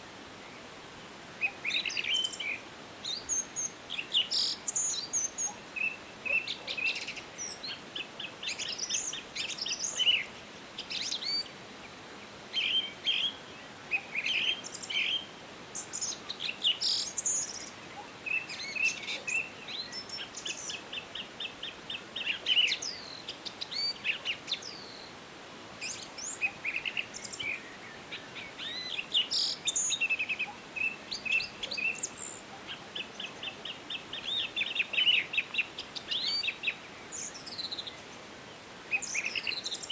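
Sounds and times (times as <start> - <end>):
faint background hiss: 0.0 - 39.9
songbirds singing and calling: 0.0 - 39.9.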